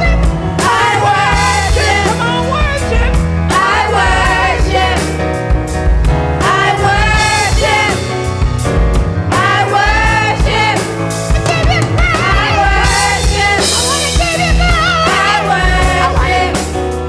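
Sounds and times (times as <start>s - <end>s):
band with drum kit and bass: 0.0s - 17.0s.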